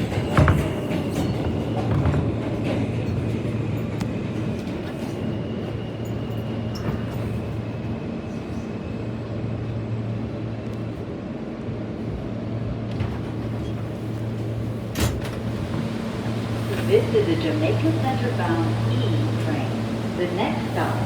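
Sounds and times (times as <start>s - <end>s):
subway car low hum: 0.0s - 21.0s.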